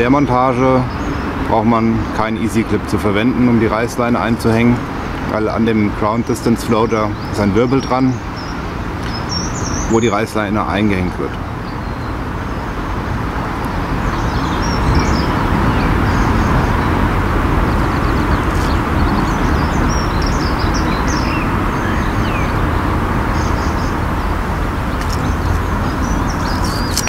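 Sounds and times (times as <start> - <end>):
small birds chirping: 0.0 - 27.0
steady rushing noise: 0.0 - 27.0.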